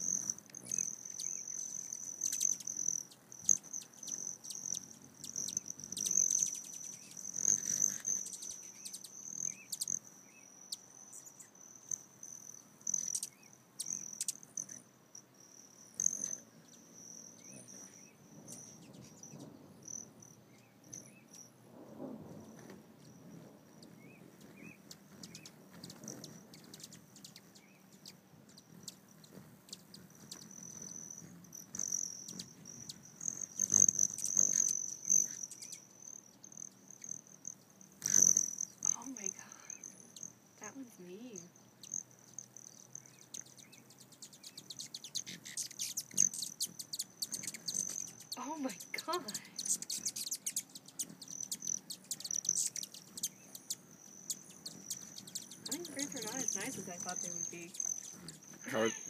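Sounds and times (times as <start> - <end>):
hummingbird wings buzzing: 0.0 - 59.0.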